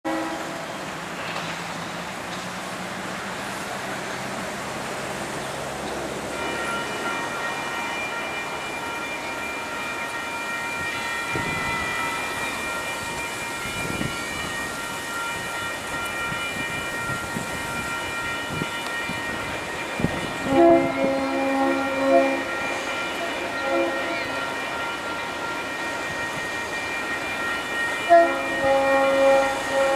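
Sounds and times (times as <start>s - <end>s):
train horn chord: 0.0s - 1.5s, 6.3s - 29.9s
diesel locomotive engine rumble: 0.1s - 29.9s.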